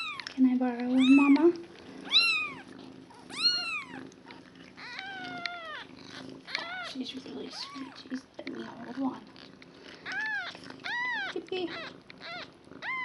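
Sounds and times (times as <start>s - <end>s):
kitten mewing: 0.0s - 8.1s, 10.0s - 13.0s.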